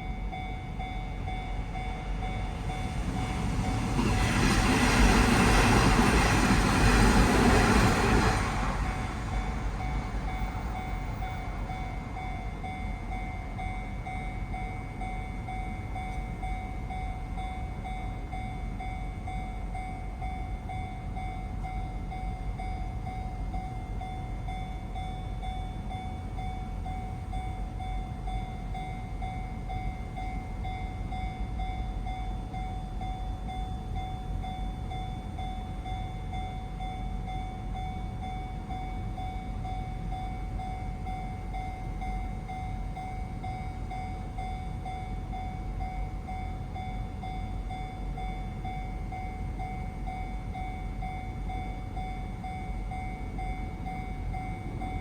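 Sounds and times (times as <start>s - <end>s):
electric train passing: 0.0s - 55.0s
level crossing warning bell: 0.0s - 55.0s.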